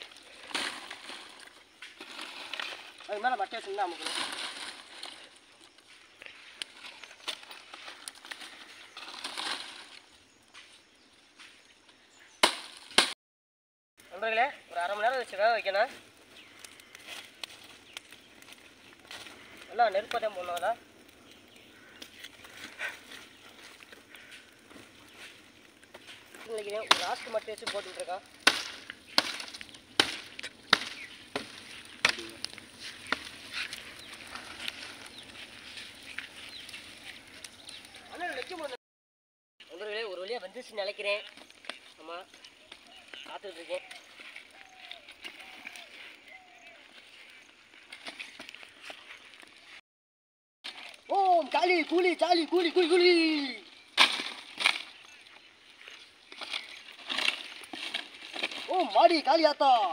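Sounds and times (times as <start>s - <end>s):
dry palm fronds rustling: 0.0s - 11.7s, 12.4s - 13.2s, 14.0s - 38.8s, 39.6s - 49.8s, 50.6s - 59.9s
fire cracks and pops: 0.0s - 11.7s, 12.4s - 13.2s, 14.0s - 38.8s, 39.6s - 49.8s, 50.6s - 59.9s.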